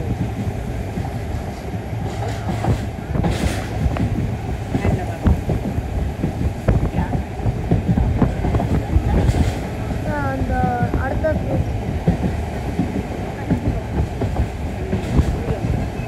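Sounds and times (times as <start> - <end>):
train carriage rumbling: 0.0 - 16.0.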